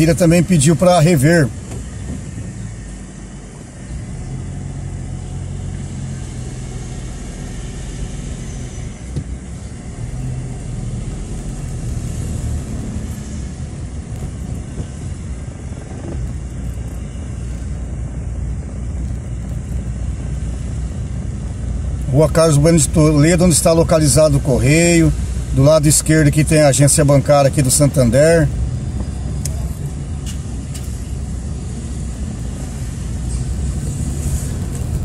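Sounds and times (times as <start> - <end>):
car engine and tyre noise: 0.0 - 35.0.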